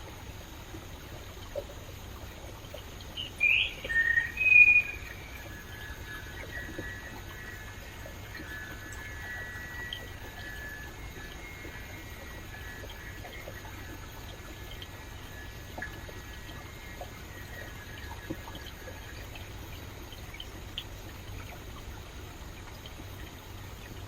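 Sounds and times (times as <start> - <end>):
stream flowing: 0.0 - 24.0
water splashes and drips: 0.0 - 24.0.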